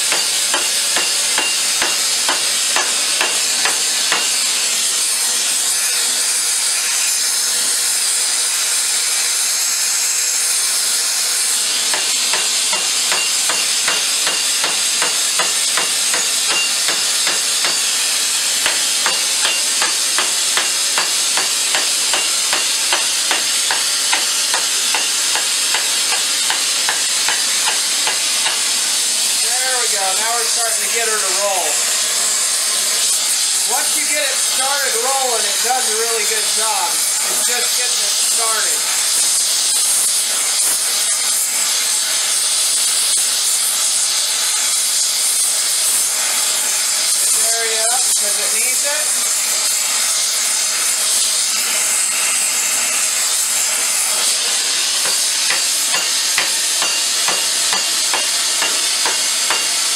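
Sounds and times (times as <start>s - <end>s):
hammer striking hot steel: 0.0s - 5.2s, 10.5s - 32.4s, 33.0s - 59.9s
gas torch hissing: 0.0s - 59.9s.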